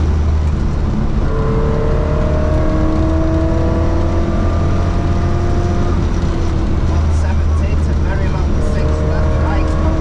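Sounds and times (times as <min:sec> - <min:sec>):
car engine accelerating: 0:00.0 - 0:10.0
low car rumble: 0:00.0 - 0:10.0.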